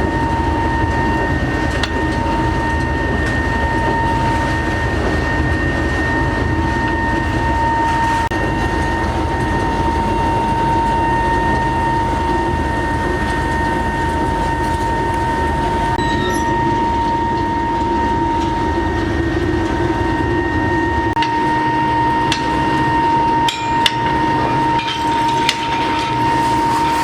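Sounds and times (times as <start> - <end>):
workshop machinery whining: 0.0 - 27.0.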